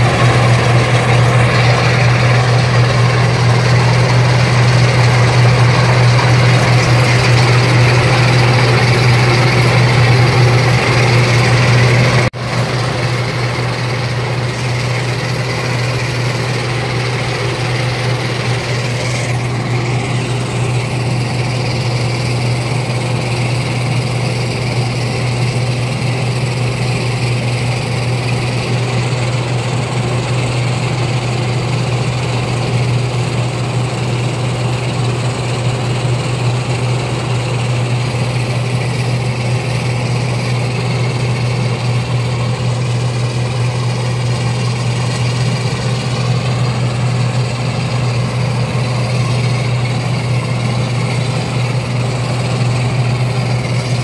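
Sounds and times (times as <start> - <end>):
combine harvester humming: 0.0 - 54.0.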